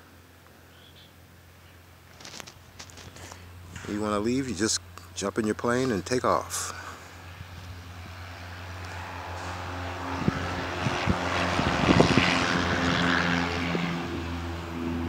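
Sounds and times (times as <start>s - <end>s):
propeller airplane passing: 0.0s - 15.0s.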